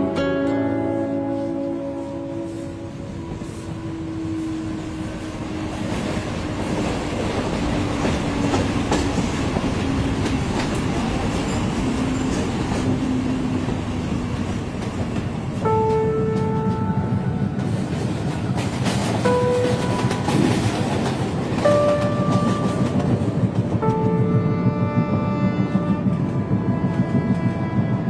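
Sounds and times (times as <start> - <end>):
train wheels rumbling on track: 2.2 - 28.0
rail joint clacks and rattles: 3.3 - 28.0.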